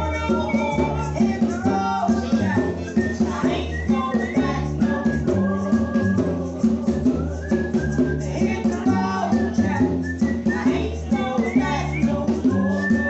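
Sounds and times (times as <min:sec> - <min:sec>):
gospel band music: 0:00.0 - 0:13.0.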